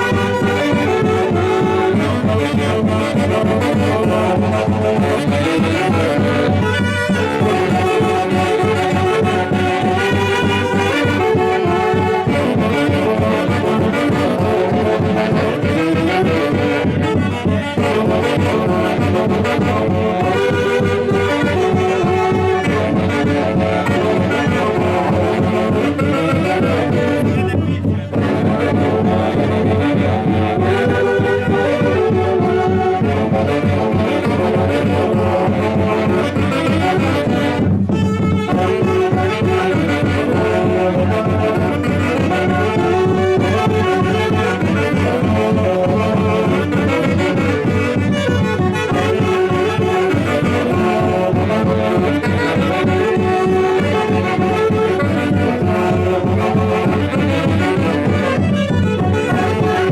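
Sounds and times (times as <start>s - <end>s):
live band with wind instruments: 0.0s - 59.9s.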